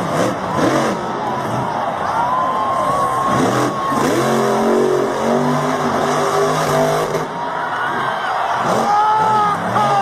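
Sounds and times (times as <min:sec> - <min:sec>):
truck engine revving: 0:00.0 - 0:02.0, 0:02.8 - 0:10.0.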